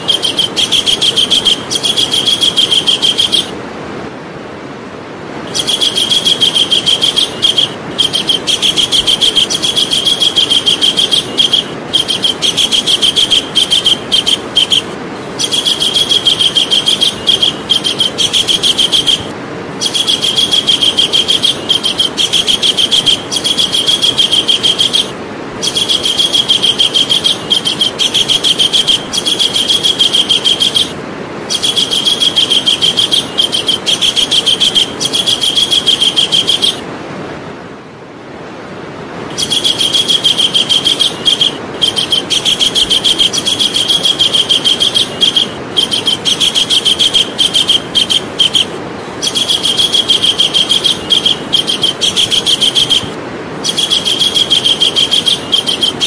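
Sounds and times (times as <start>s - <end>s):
kingfisher trilling calls: 0.0s - 3.6s, 5.5s - 36.8s, 39.3s - 56.0s
background hiss: 0.0s - 56.0s.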